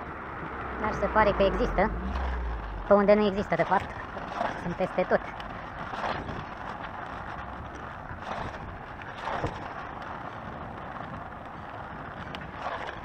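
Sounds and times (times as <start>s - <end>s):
scooter tyres rumbling on asphalt: 0.0s - 13.0s
wind on microphone: 0.0s - 13.0s.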